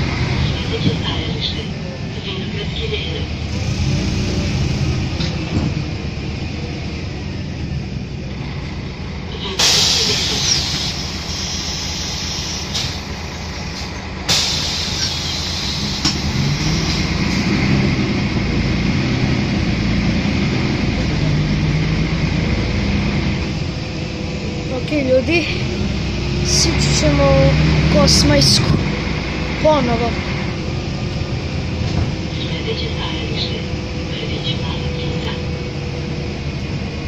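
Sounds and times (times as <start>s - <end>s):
bus engine: 0.0s - 37.0s
road noise: 0.0s - 37.0s.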